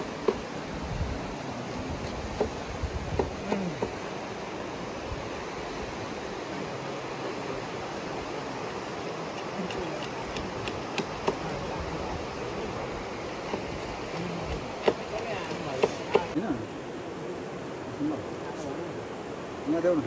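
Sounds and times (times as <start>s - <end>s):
river rushing: 0.0s - 20.0s.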